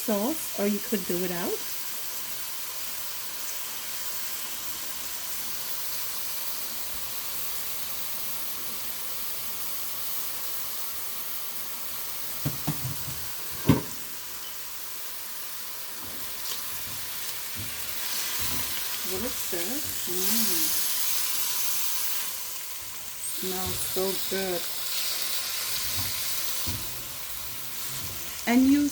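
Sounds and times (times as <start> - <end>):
chicken sizzling in a skillet: 0.0 - 28.9.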